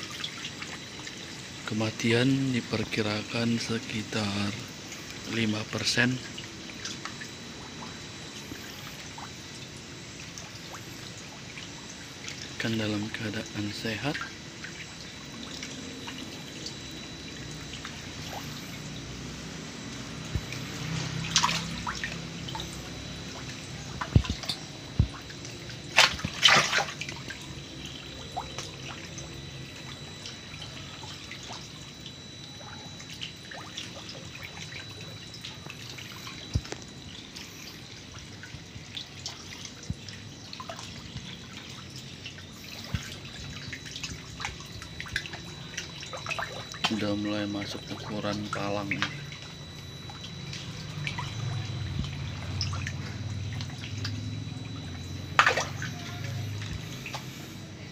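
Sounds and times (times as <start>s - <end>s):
fish splashing in water: 4.7s - 57.8s.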